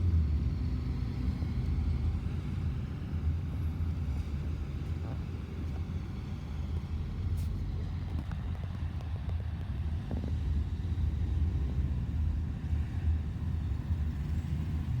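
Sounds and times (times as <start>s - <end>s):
traffic rumbling: 0.0s - 15.0s.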